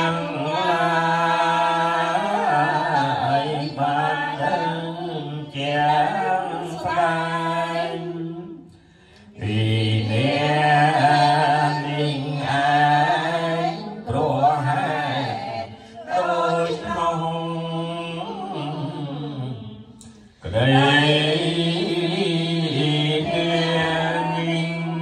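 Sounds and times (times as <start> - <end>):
group chanting in unison: 0.0 - 25.0.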